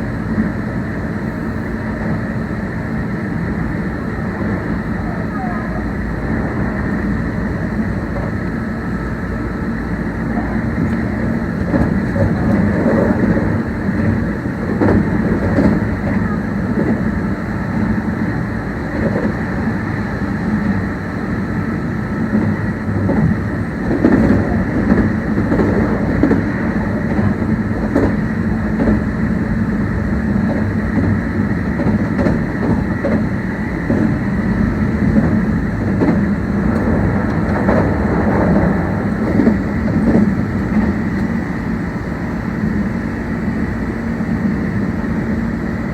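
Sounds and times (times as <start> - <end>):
train wheels rumbling on rail: 0.0 - 45.9
rail joint clacks: 3.4 - 43.8.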